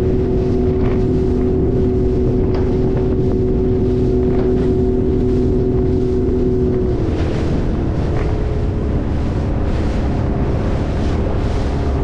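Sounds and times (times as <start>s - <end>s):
speedboat engine running: 0.0s - 12.0s
wind and water rushing: 0.0s - 12.0s.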